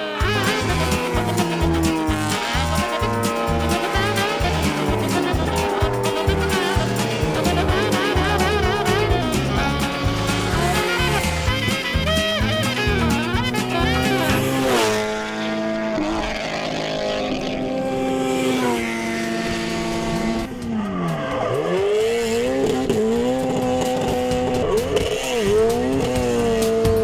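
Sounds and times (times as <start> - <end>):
car engine revving hard: 0.2 - 20.6, 21.4 - 27.0.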